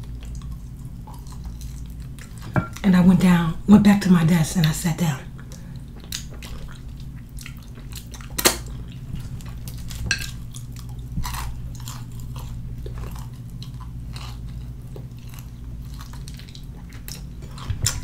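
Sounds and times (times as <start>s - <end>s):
chewing with crunches: 0.0s - 2.8s, 5.3s - 18.0s.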